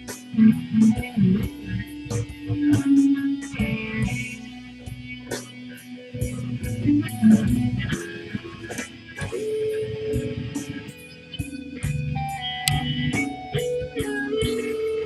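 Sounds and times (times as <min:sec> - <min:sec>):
blues guitar plucking and strumming: 0:00.0 - 0:15.0.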